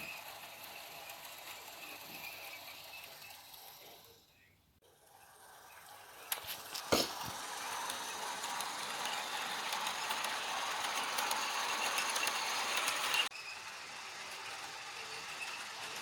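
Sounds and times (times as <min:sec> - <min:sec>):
train wheels clicking: 0:00.0 - 0:04.2, 0:05.0 - 0:16.0
train rolling on rails: 0:00.0 - 0:16.0.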